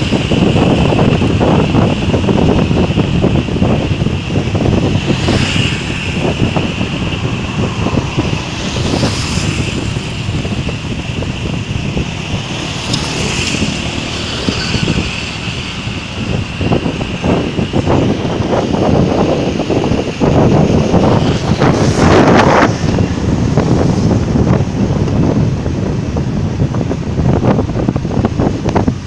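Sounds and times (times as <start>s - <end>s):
motorcycle engine: 0.0s - 29.0s
wind buffeting microphone: 0.0s - 29.0s.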